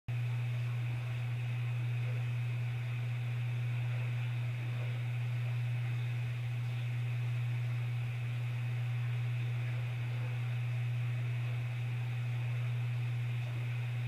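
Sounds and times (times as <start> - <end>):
steady low hum: 0.1 - 14.0
constant hiss: 0.2 - 14.0.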